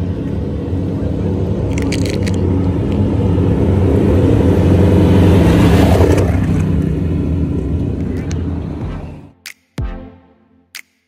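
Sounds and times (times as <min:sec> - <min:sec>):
truck engine driving past: 0:00.0 - 0:09.3.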